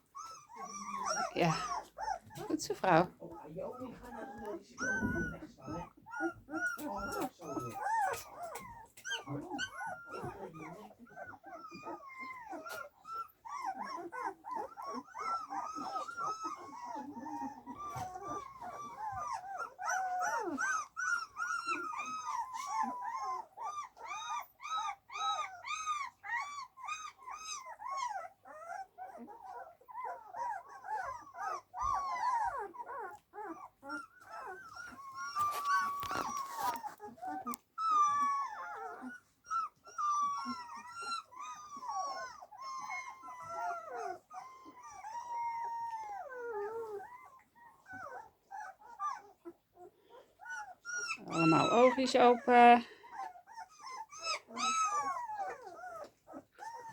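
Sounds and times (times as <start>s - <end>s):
puppies whimpering and squeaking: 0.0s - 56.9s.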